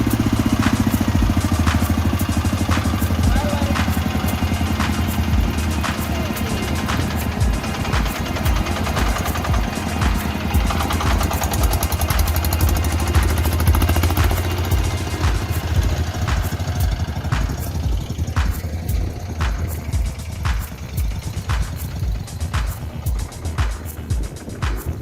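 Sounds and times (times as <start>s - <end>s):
harvester engine throbbing: 0.0s - 25.0s
machinery clacking: 0.0s - 25.0s.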